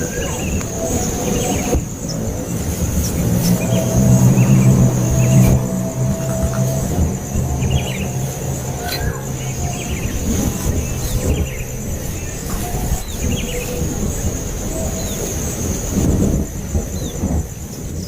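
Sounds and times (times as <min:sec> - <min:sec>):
high insect-like trill: 0:00.0 - 0:18.0
low rumbling background noise: 0:00.0 - 0:18.0
baby birds chirping: 0:00.2 - 0:15.4.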